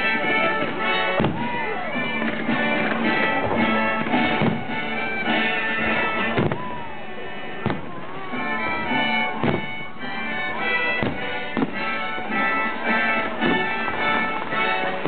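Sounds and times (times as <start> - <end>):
music with long held notes: 0.0 - 15.0.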